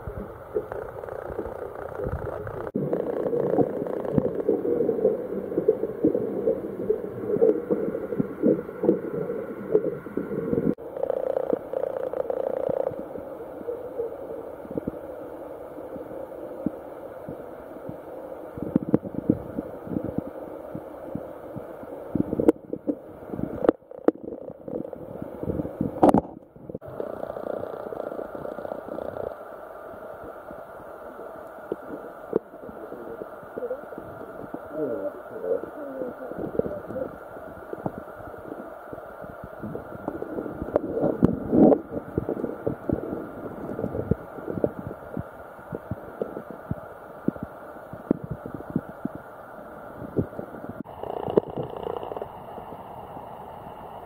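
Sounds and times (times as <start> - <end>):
water sloshing underwater: 0.0 - 54.0.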